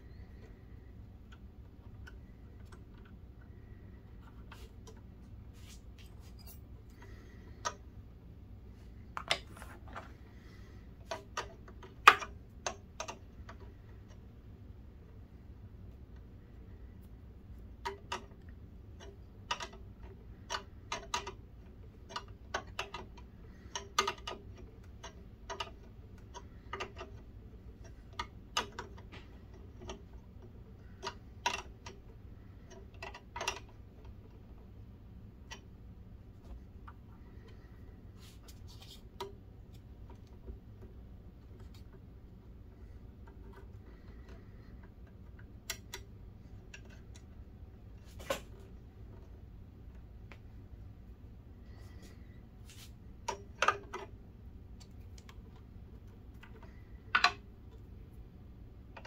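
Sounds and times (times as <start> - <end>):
steady low hum: 0.0 - 59.0
small clicks on metal fittings: 6.3 - 7.9, 9.2 - 14.4, 15.8 - 34.8, 35.4 - 50.8, 51.7 - 58.2.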